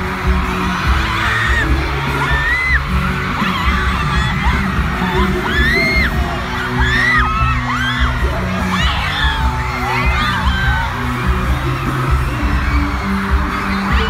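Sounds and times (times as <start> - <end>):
fans screaming: 0.0 - 14.0
loud pop music with heavy bass: 0.0 - 14.0.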